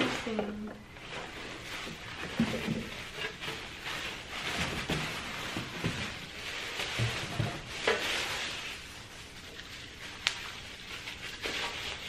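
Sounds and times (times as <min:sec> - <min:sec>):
plastic and bubble wrap crinkling: 0:00.0 - 0:12.0.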